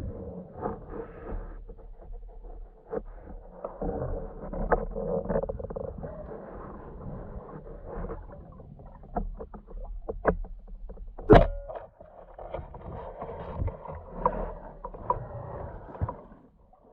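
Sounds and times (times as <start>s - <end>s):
muffled underwater knocks and clicks: 0.5s - 16.9s.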